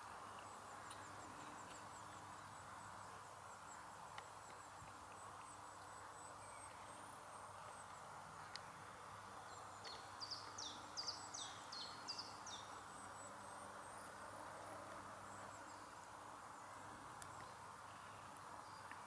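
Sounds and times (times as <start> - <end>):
soft background hiss: 0.0 - 19.0
songbird singing: 0.0 - 19.0.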